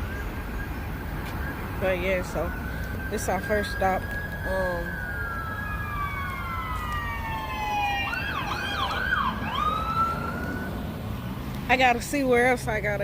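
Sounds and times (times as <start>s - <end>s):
emergency vehicle siren: 0.0s - 11.5s
low traffic rumble: 0.0s - 13.0s.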